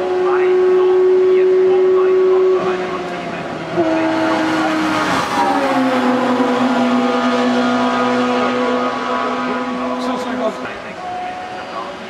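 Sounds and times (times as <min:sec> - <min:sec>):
racing car engine passing by: 0:00.1 - 0:12.0.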